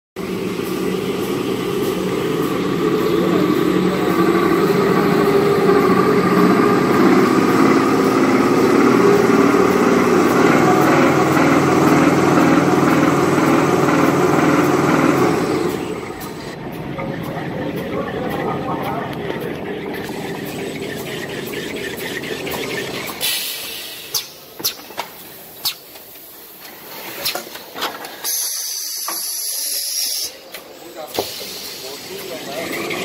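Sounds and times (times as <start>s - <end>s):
machine rollers humming and rattling: 0.2s - 33.0s.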